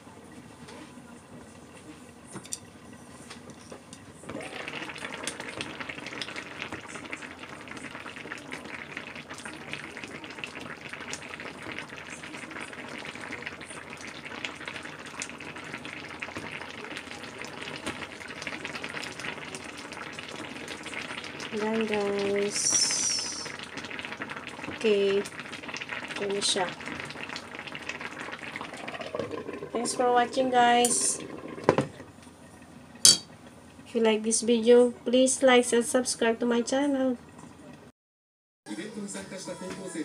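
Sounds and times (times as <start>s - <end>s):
broth simmering and sizzling: 0.4s - 37.7s.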